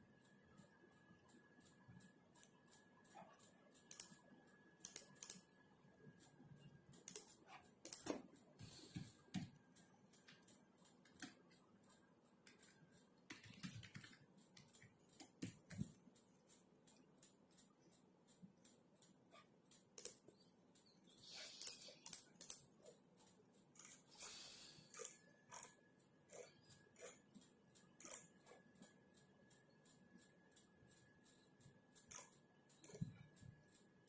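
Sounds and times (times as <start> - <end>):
typing on a computer keyboard: 0.1 - 34.0.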